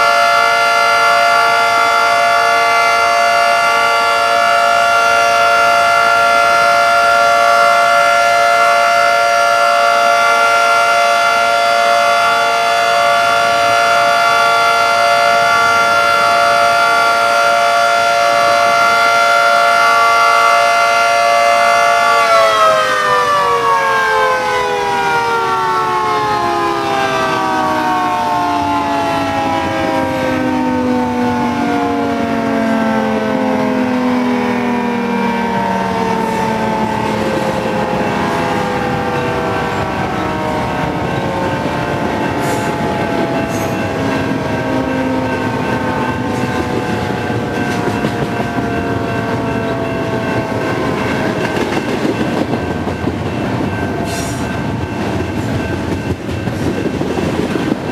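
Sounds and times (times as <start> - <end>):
dual-tone warning siren: 0.0 - 57.9.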